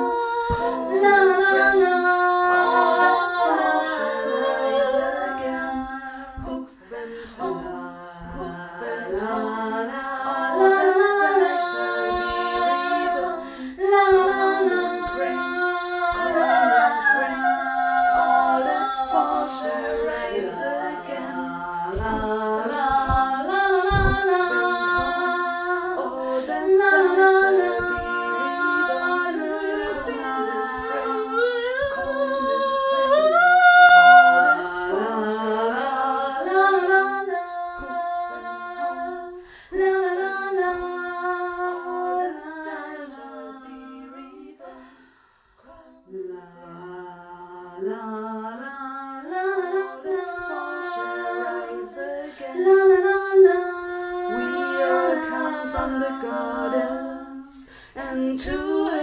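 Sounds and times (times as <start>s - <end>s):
a cappella singing in harmony: 0.0s - 59.0s.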